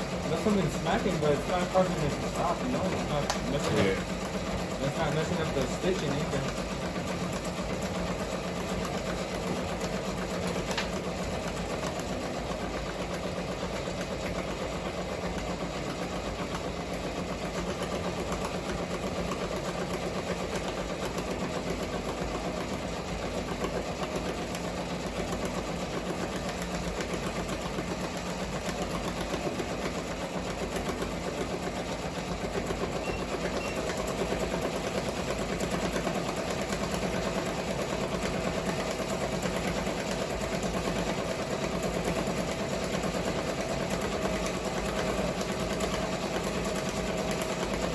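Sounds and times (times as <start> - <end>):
embroidery machine stitching: 0.0 - 47.9.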